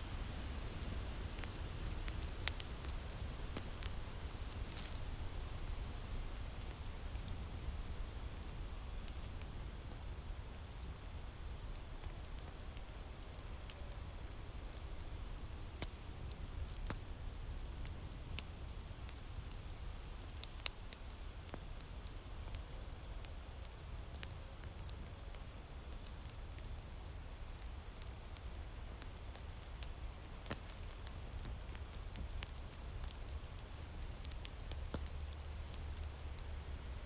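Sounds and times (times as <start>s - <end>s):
low wind: 0.0s - 37.0s
wood fire crackling: 0.0s - 37.0s
sharp pops from fire: 0.4s - 10.0s, 10.8s - 21.7s, 25.2s - 37.0s.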